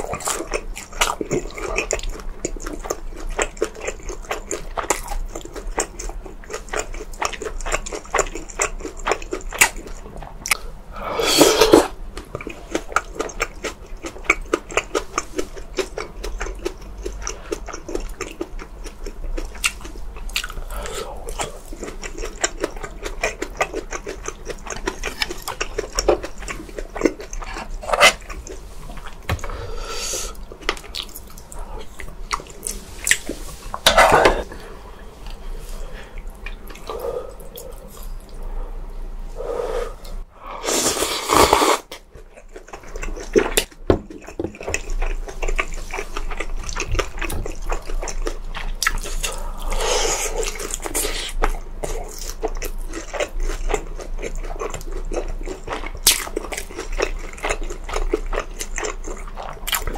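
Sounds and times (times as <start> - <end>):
person chewing: 0.0 - 38.7, 39.4 - 59.9.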